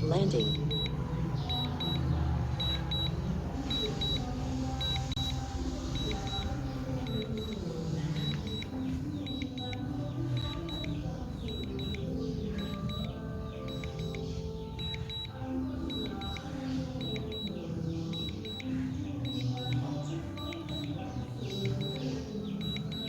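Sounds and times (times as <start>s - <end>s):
background music: 0.0s - 23.0s
short high warning beeps: 0.4s - 2.0s, 3.7s - 12.0s, 12.6s - 23.0s.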